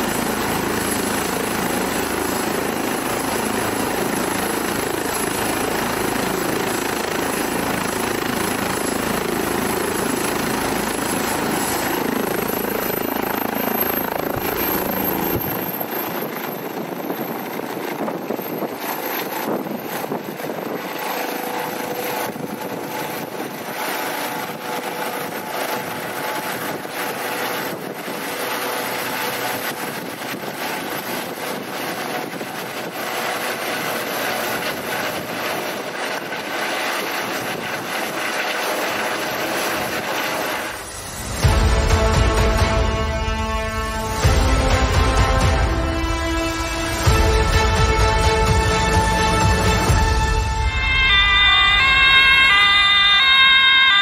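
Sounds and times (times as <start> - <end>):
helicopter rotor rumble: 0.0 - 54.0
high turbine whine: 0.0 - 54.0.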